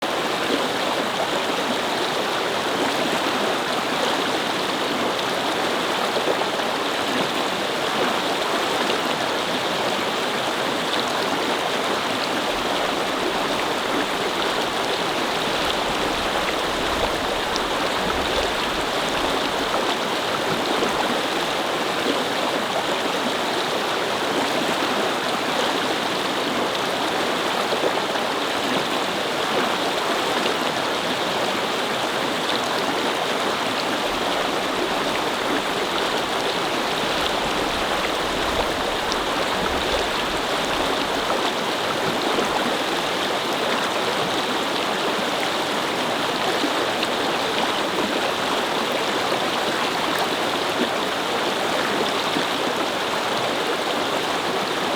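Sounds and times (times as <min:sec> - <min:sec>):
brook water flowing: 0:00.0 - 0:54.9.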